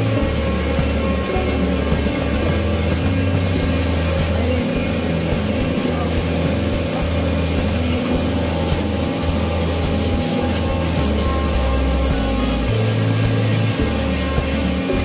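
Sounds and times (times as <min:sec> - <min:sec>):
music with low bass notes: 0:00.0 - 0:15.0.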